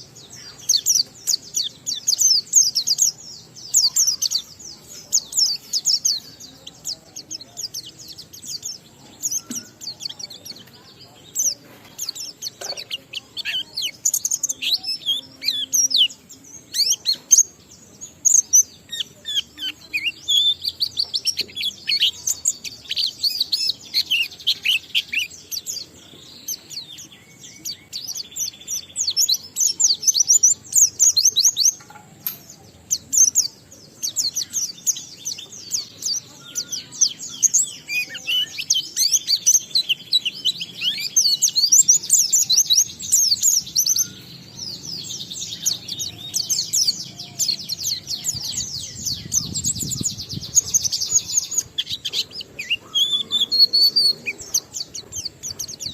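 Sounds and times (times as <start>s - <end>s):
bird singing chirps and trills: 0.0s - 55.9s.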